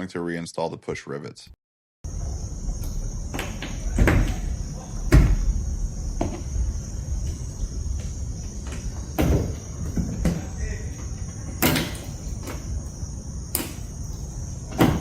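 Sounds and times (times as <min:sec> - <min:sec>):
faint high whine: 0:02.1 - 0:15.0.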